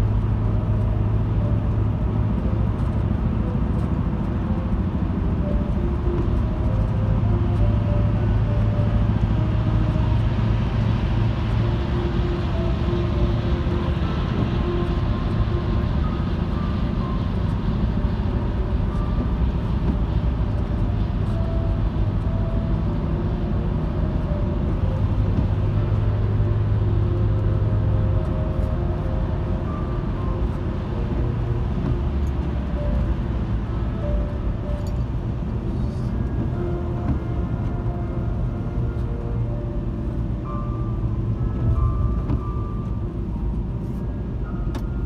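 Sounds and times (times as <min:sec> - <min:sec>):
engine and tyre drone: 0:00.0 - 0:45.0.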